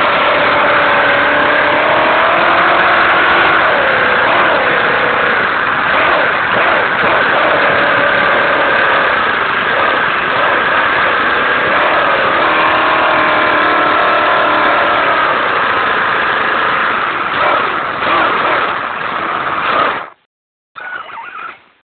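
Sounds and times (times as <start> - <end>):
toy truck drivetrain whine: 0.0 - 20.2, 20.8 - 21.8.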